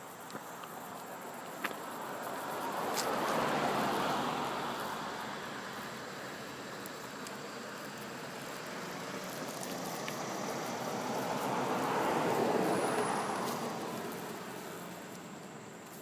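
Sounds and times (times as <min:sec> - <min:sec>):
road vehicle passing: 0:00.1 - 0:16.0.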